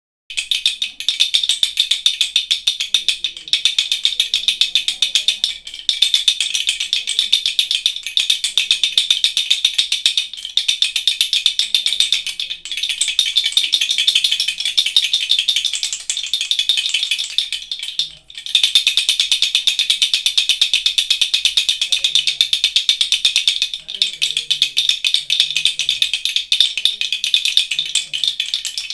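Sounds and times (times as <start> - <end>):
baby rattle shaken rapidly: 0.3 - 28.9.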